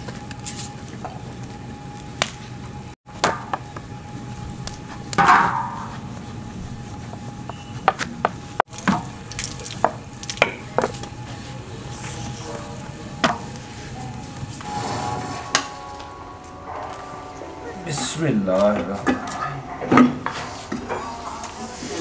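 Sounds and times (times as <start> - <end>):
low cooking background: 0.0 - 22.0.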